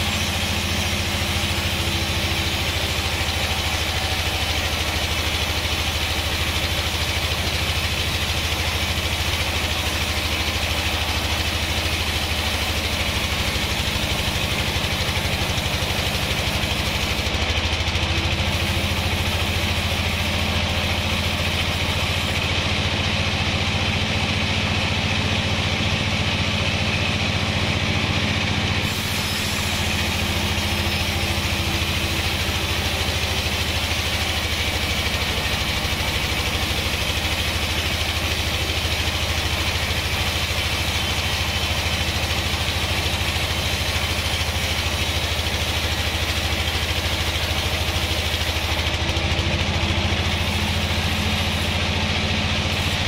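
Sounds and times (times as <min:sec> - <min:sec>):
band sawmill sawing log: 0:00.0 - 0:53.0.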